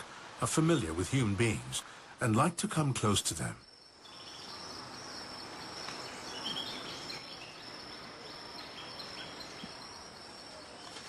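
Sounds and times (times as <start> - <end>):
high insect drone: 0.1 - 11.0.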